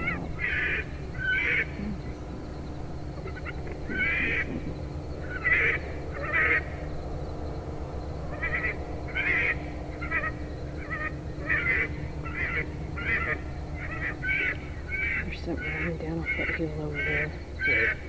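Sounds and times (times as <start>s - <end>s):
electronic squawking bird calls: 0.0s - 2.2s, 3.2s - 6.8s, 8.3s - 18.0s.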